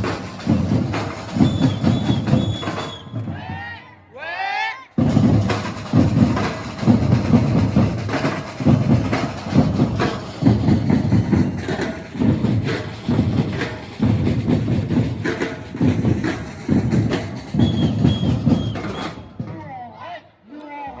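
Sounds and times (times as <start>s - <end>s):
snare and shaker drums rattling: 0.0s - 3.8s, 5.0s - 19.9s.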